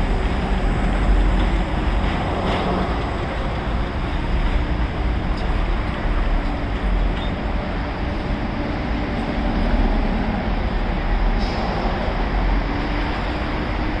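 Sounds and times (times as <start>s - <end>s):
subway train rail rumble: 0.0s - 14.0s.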